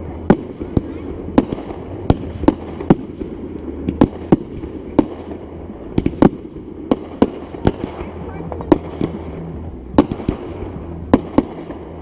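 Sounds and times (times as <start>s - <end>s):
fireworks banging: 0.0s - 12.0s
steady rumble: 0.0s - 12.0s.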